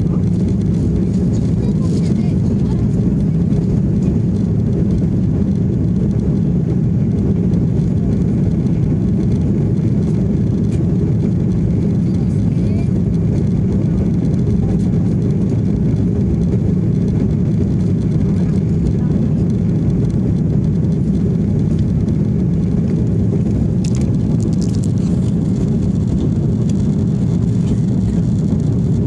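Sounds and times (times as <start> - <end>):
jet cabin engine drone: 0.0 - 29.0.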